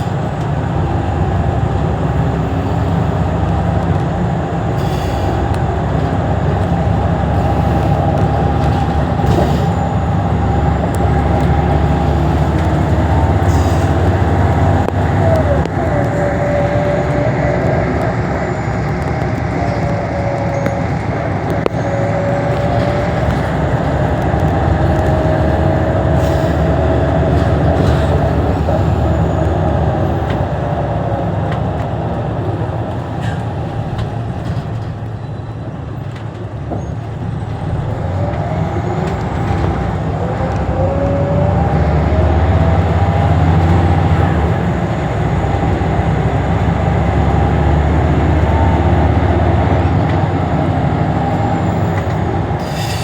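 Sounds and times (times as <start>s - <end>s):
bus engine accelerating with whine: 0.0s - 53.0s.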